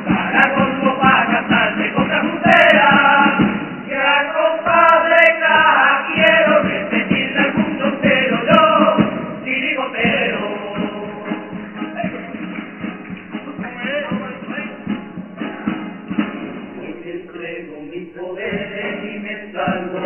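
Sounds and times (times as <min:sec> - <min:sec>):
steady beat: 0:00.0 - 0:05.0, 0:06.1 - 0:20.0
men's chorus singing: 0:00.0 - 0:15.1, 0:16.7 - 0:20.0
strummed guitars: 0:00.0 - 0:20.0.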